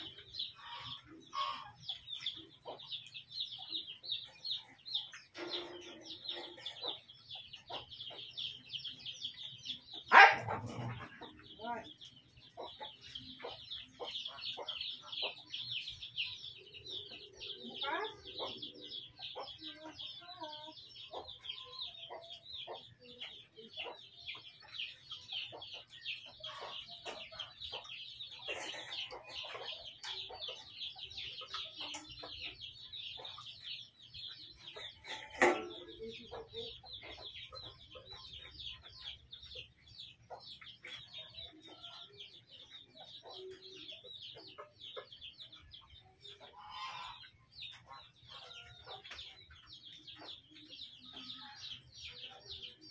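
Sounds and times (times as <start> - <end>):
chicken clucking: 0.0 - 52.9.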